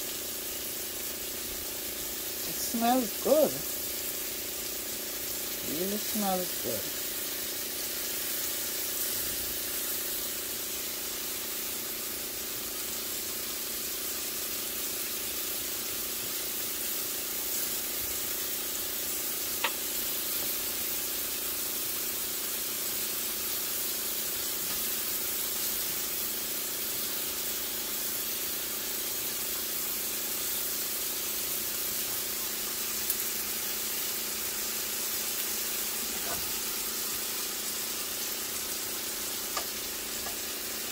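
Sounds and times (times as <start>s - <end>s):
mushrooms sizzling in a frying pan: 0.0s - 40.9s.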